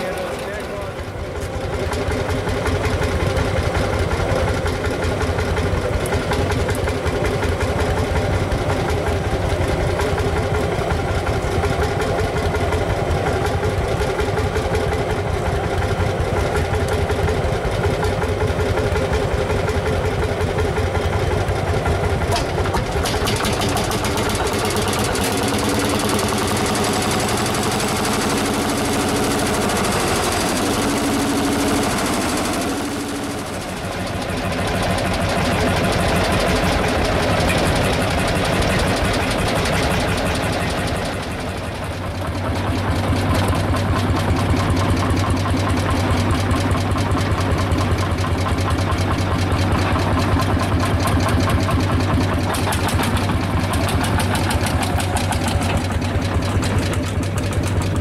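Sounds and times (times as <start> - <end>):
higher steady engine tone: 0.0 - 58.0
tractor engines running: 0.0 - 58.0.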